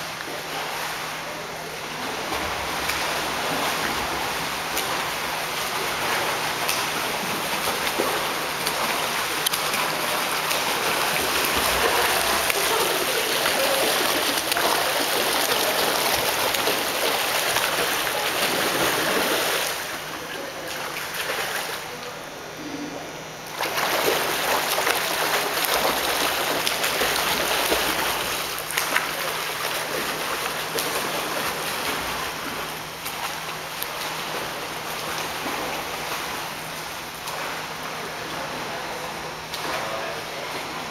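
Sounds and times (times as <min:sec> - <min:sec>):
swimmer splashing water: 0:00.0 - 0:40.9.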